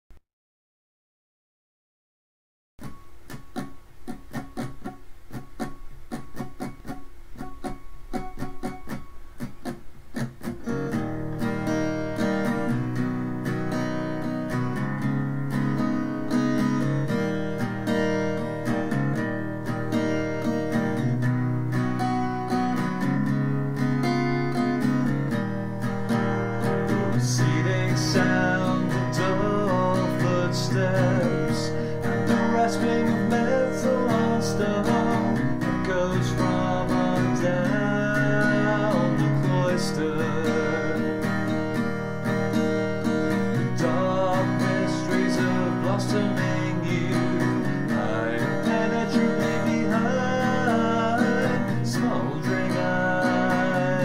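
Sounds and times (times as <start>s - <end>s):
acoustic guitar playing: 2.8s - 54.0s.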